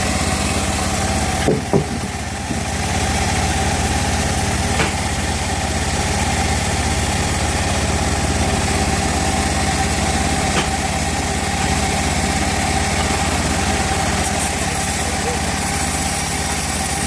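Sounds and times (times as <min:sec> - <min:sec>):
bandsaw mill running: 0:00.0 - 0:17.0.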